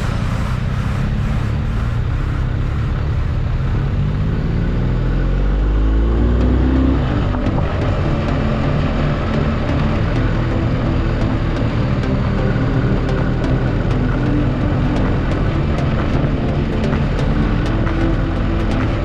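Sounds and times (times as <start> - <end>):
low wind rumble: 0.0 - 19.0
vehicle engine running: 0.0 - 19.0.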